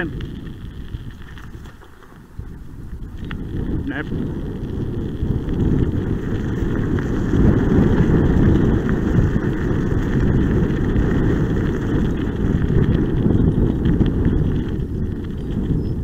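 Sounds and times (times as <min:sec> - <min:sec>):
wheels rolling over gravel: 0:00.0 - 0:16.0
wind rumbling on microphone: 0:00.0 - 0:16.0.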